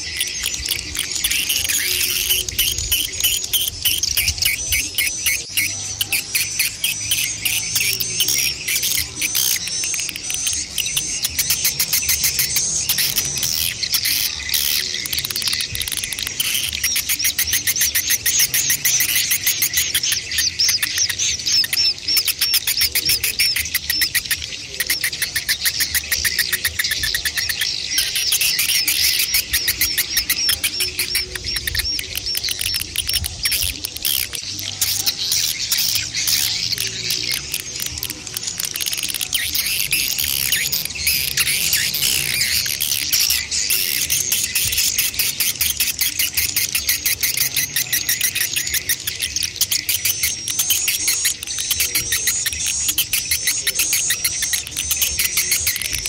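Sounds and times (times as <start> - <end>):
swiftlets chirping: 0.0 - 56.0.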